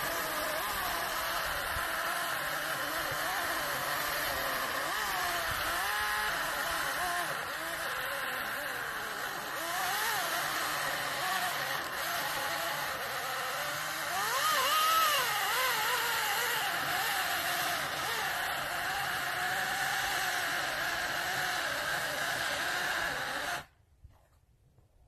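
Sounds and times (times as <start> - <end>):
chainsaw cutting wood: 0.0 - 23.8.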